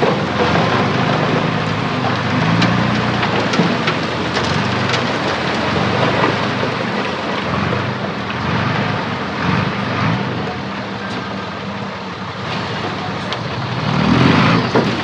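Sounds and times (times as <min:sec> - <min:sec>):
dense noisy crackle: 0:00.0 - 0:15.0
heavy diesel engine running: 0:00.0 - 0:15.0.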